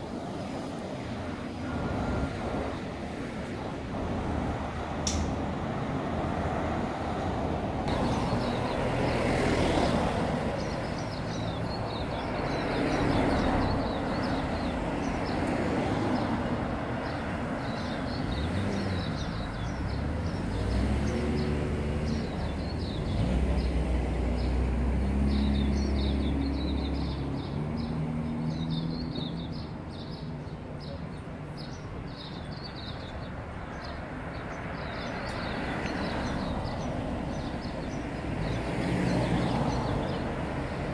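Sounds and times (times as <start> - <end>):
cars passing: 0.0 - 40.9
small birds chirping: 7.9 - 40.9.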